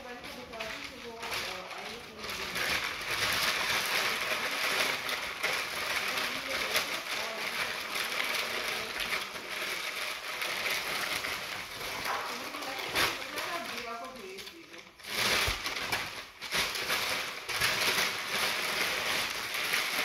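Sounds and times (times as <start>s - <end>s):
packing paper crinkling: 0.0s - 20.0s.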